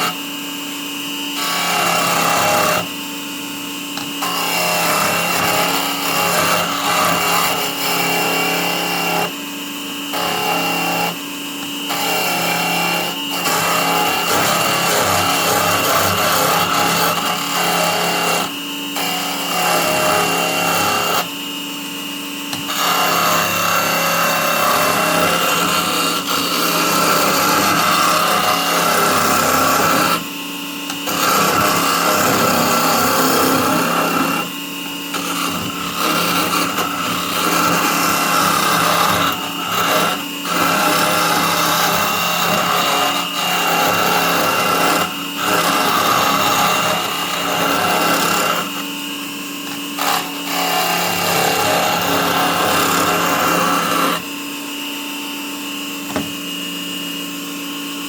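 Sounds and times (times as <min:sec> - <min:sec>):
chisel scraping spinning wood: 0:00.0 - 0:21.5, 0:22.5 - 0:54.3
lathe motor hum and whine: 0:00.0 - 0:58.0.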